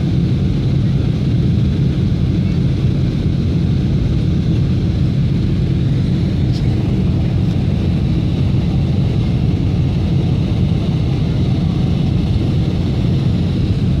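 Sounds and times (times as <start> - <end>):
jet airliner rumble: 0.0 - 14.0.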